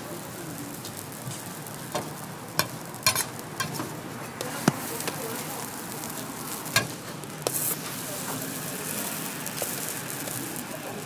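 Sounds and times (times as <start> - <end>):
pancakes sizzling on griddle: 0.0 - 11.0.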